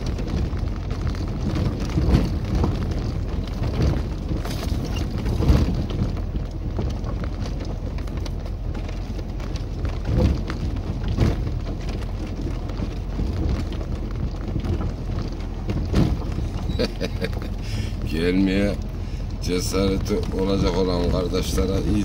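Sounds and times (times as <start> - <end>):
car body jolting and thumping: 0.0 - 17.8
engine and tyres rumbling on gravel: 0.0 - 22.0.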